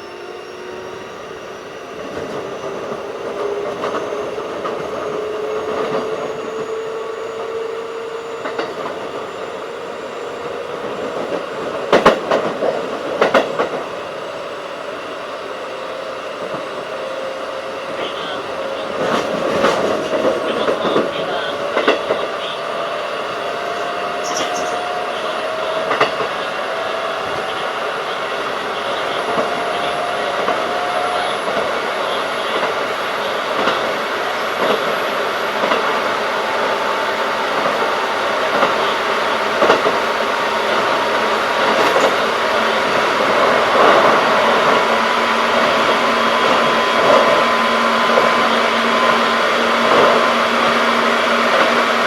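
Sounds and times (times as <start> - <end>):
train motor whine: 0.0 - 52.0
train rail rumble: 0.0 - 52.0.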